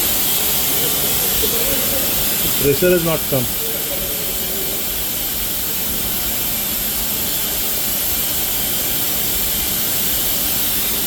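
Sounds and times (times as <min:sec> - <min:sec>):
machine noise with high hiss: 0:00.0 - 0:11.0.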